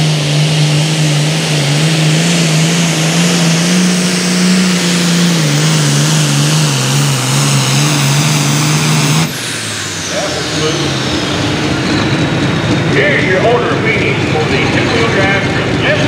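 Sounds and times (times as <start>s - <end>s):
diesel engine at full throttle: 0.0s - 16.0s.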